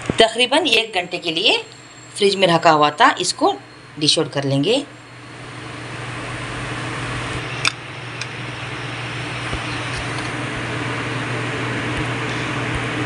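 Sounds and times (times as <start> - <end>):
fan-like hum and hiss: 0.0 - 13.0.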